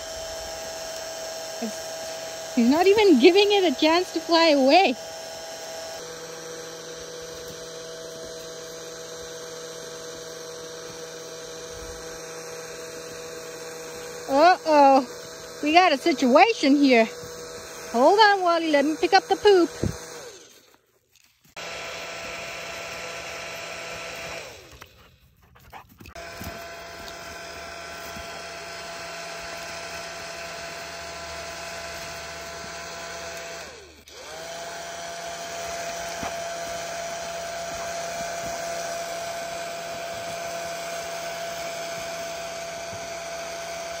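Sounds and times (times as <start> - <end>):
small fan motor whining: 0.0 - 44.0.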